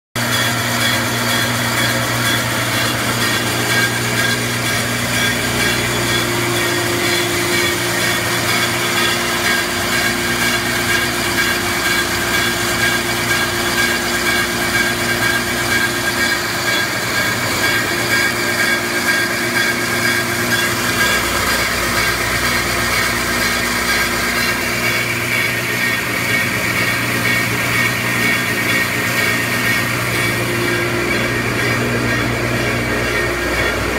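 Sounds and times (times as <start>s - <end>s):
cutting wheel grinding stone: 0.2s - 33.9s
stone lathe humming and whining: 0.2s - 33.9s.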